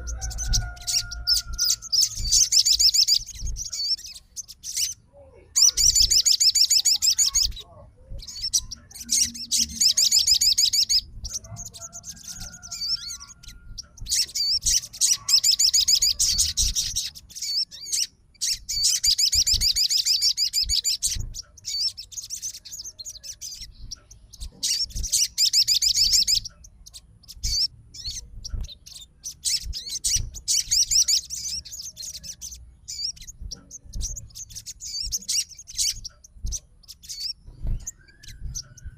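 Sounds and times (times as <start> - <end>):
songbird twittering: 0.0 - 38.9.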